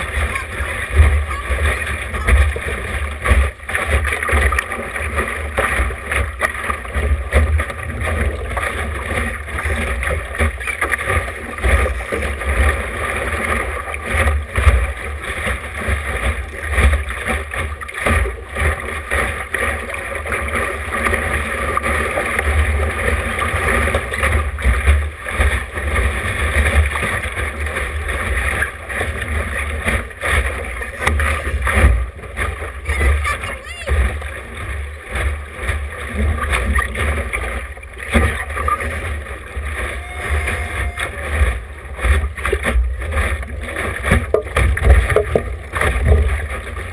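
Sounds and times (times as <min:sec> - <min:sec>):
water rushing along hull: 0:00.0 - 0:46.9.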